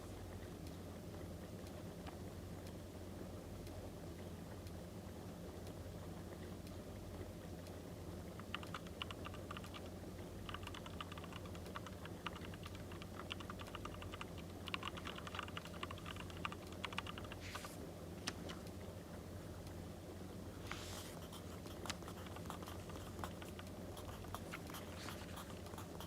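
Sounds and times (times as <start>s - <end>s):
low steady hum: 0.0s - 26.0s
rapid light clicks and taps: 0.3s - 18.8s, 21.2s - 26.0s.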